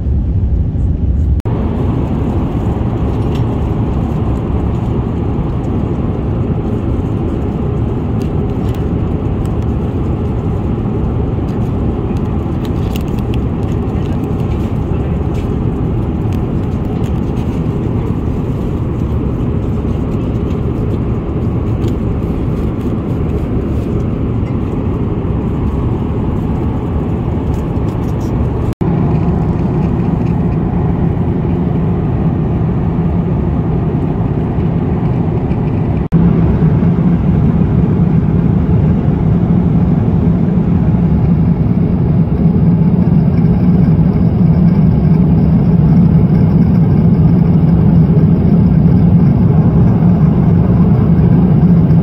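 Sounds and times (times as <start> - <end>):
airliner cabin engine roar: 0.0 - 52.0.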